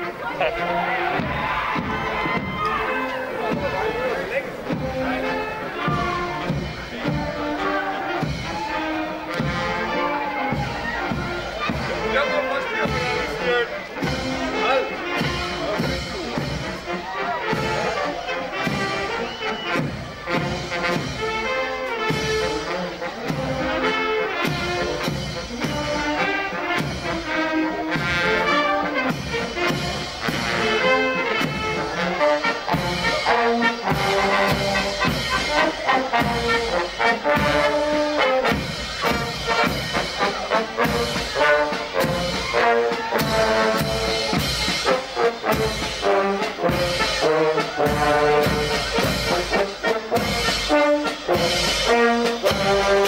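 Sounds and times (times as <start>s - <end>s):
marching brass band: 0.0s - 53.0s
trombones: 0.0s - 53.0s
drum steady beat: 0.1s - 53.0s.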